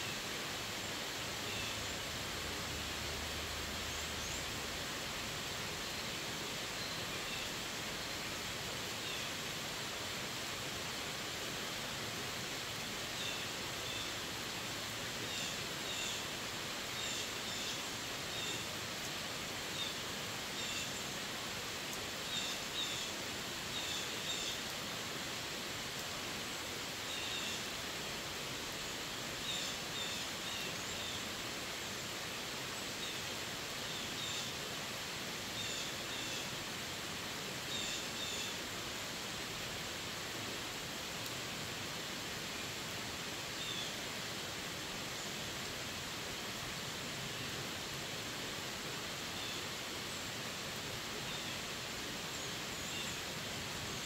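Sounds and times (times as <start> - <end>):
steady rain on leaves and road: 0.0 - 54.0.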